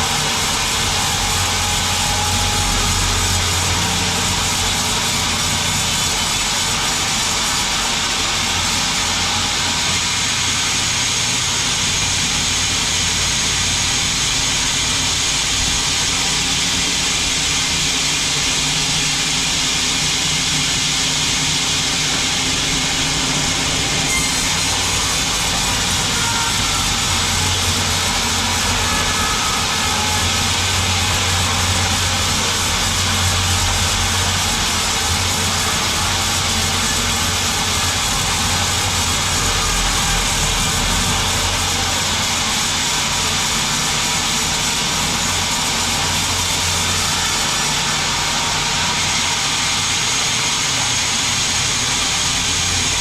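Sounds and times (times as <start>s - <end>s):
sawmill saw cutting log: 0.0s - 53.0s.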